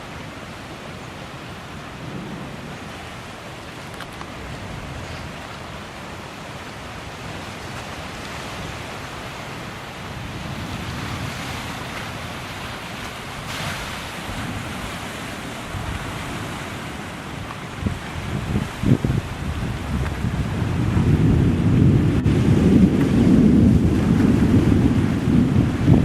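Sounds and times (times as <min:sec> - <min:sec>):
wind and rain rushing: 0:00.0 - 0:26.0
wind buffeting microphone: 0:01.6 - 0:26.0.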